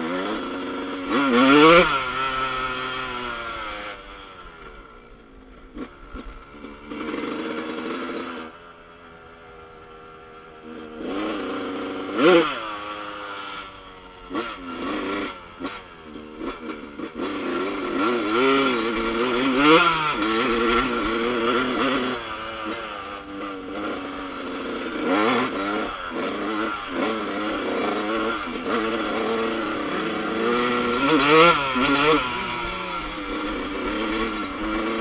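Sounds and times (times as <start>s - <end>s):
two-stroke dirt bike engine revving: 0.0s - 35.0s.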